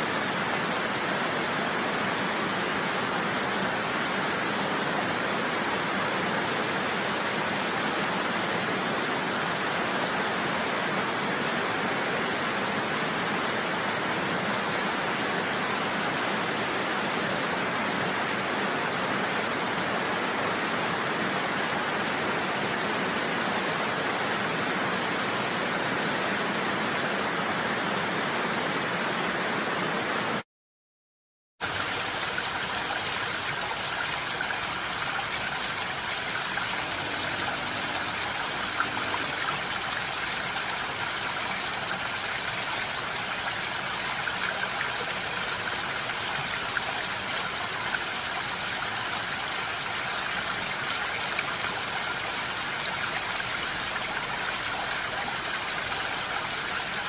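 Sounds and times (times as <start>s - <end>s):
rushing water: 0.0s - 30.4s, 31.6s - 57.0s.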